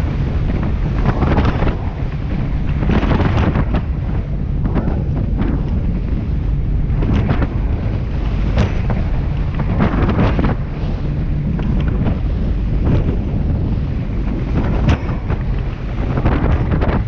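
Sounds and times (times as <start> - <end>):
waves slapping against hull: 0.0 - 17.0
wind buffeting microphone: 0.0 - 17.0.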